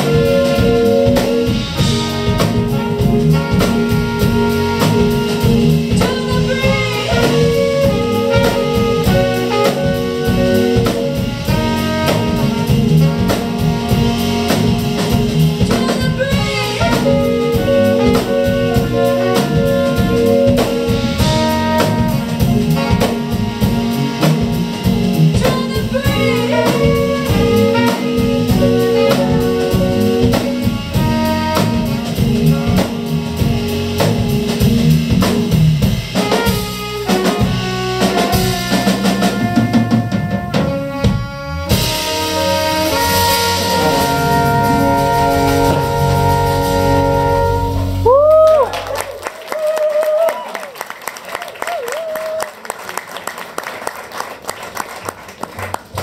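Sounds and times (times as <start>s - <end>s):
saxophone and trumpet: 0.0s - 49.3s
drum kit: 0.0s - 56.0s.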